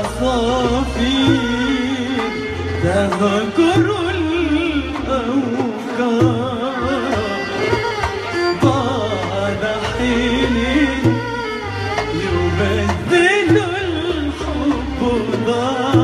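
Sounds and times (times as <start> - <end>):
hand drum beats: 0.0 - 16.0
sustained bass notes: 0.0 - 16.0.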